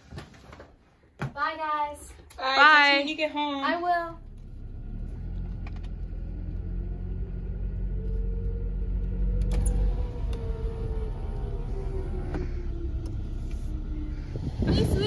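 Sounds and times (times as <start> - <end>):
car engine low rumble: 2.5 - 15.0.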